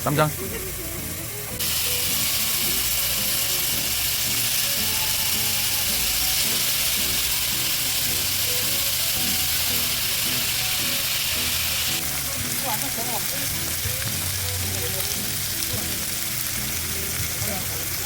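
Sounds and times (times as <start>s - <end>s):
light background music: 0.0s - 18.0s
pork sizzling on a grill: 0.0s - 18.0s.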